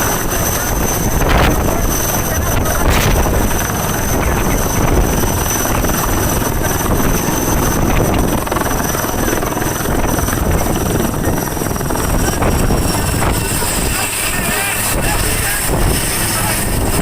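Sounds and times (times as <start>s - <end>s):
helicopter rotor noise: 0.0s - 17.0s.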